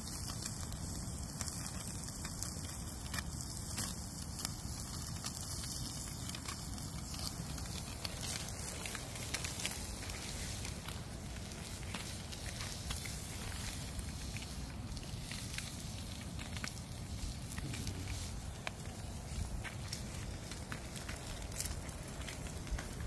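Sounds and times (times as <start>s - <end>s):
campfire crackling: 0.0s - 23.0s
sharp pops and snaps: 0.0s - 23.0s.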